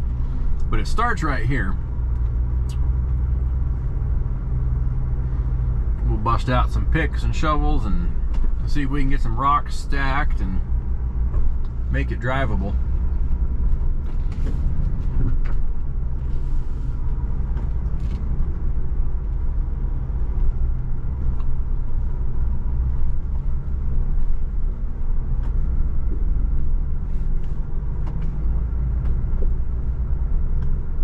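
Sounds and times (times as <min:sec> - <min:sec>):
vehicle engine low rumble: 0:00.0 - 0:31.0.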